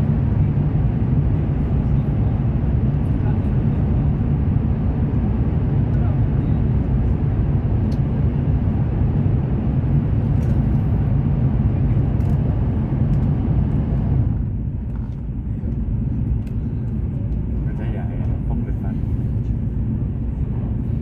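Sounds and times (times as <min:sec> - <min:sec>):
train rumble inside cabin: 0:00.0 - 0:21.0.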